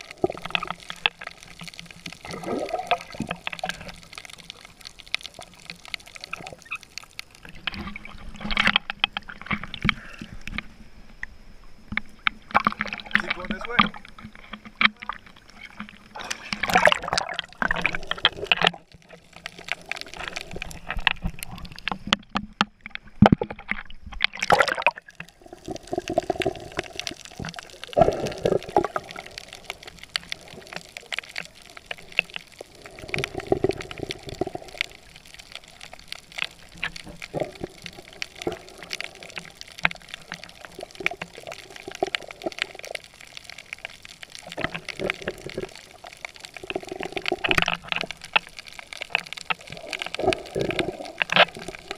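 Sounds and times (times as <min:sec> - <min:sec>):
muffled underwater crackling clicks: 0:00.0 - 0:51.9.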